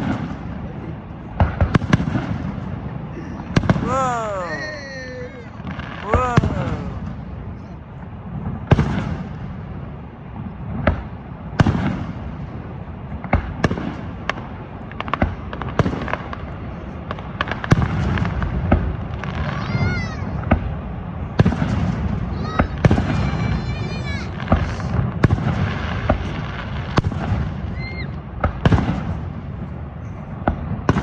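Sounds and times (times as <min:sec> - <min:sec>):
firework bangs: 0:00.0 - 0:31.0
low continuous rumble: 0:00.0 - 0:31.0.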